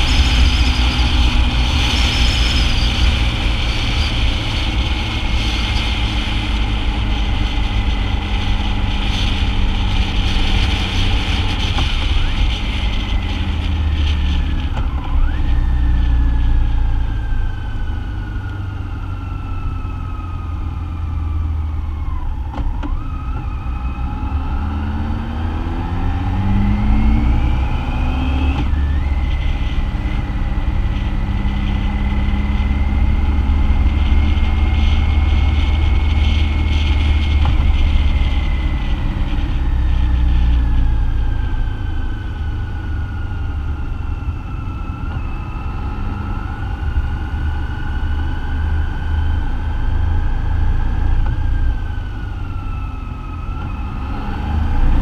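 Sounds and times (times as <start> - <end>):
low rumble of engine and wind: 0.0 - 55.0
motorcycle engine whine: 0.0 - 55.0.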